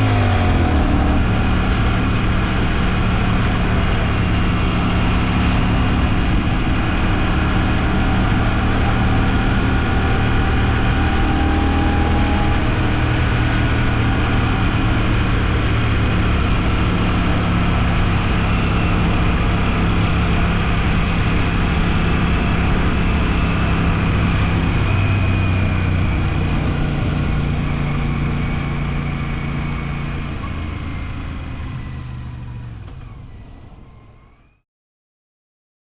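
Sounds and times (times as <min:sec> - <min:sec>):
motorcycle engine running: 0:00.0 - 0:34.2.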